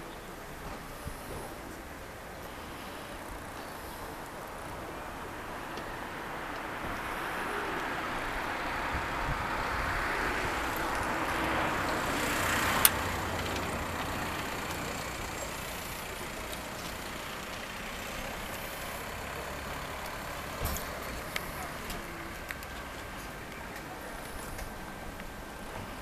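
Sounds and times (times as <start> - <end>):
road vehicle passing: 0.0 - 26.0.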